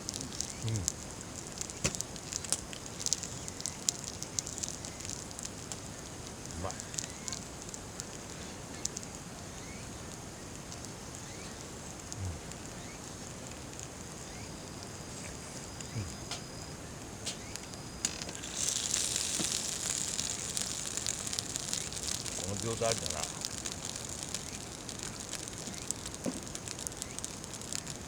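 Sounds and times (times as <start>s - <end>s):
campfire crackling: 0.0s - 28.0s
steady fire hiss: 0.0s - 28.0s.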